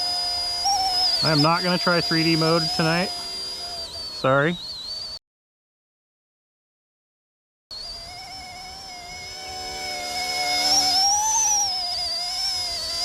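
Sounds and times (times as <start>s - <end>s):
model helicopter motor whine: 0.0s - 5.2s, 7.7s - 13.0s.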